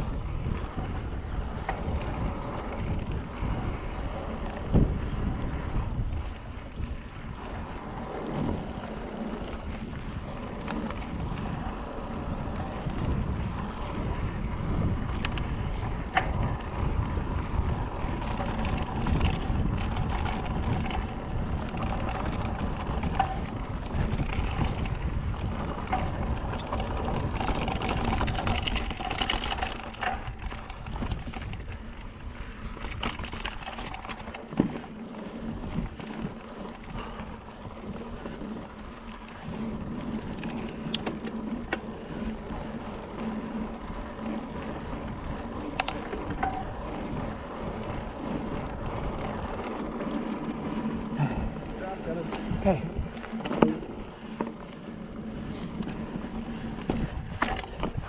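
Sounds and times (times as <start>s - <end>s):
bike rattling and knocking: 0.0s - 58.0s
bike tyres rumbling on dirt: 0.0s - 58.0s
wind buffeting microphone: 0.0s - 58.0s.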